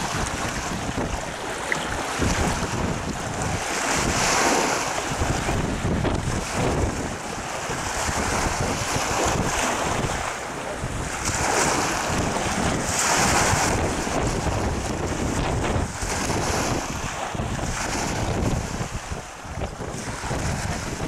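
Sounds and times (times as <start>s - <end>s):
waves slapping: 0.0s - 21.0s
wind buffeting microphone: 0.0s - 21.0s.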